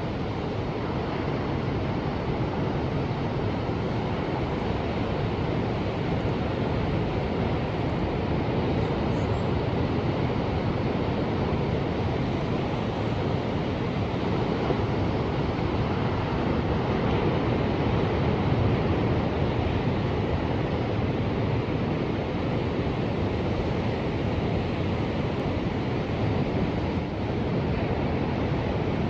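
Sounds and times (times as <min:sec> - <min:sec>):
ocean waves washing: 0:00.0 - 0:29.0.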